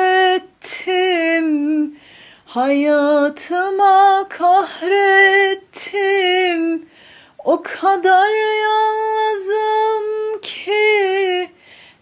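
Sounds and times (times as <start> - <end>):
woman singing unaccompanied: 0.0 - 11.6.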